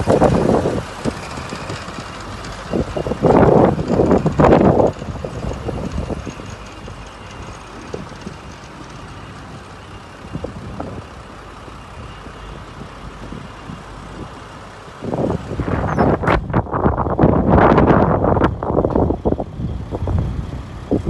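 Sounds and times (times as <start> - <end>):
engine low rumble: 0.0 - 21.0
rushing buffeting noise: 0.0 - 21.0.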